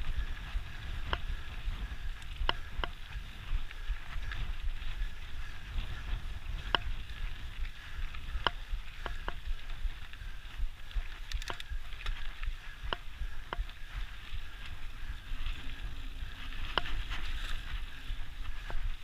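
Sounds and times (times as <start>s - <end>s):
metallic clinks of bike: 0.0s - 19.0s
wind noise: 0.0s - 19.0s.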